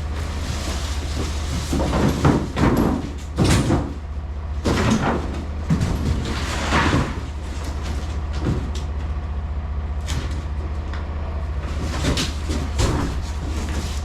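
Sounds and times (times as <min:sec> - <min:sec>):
diesel truck engine idling: 0:00.0 - 0:14.0
clunks and knocks: 0:00.2 - 0:09.2, 0:10.0 - 0:14.0.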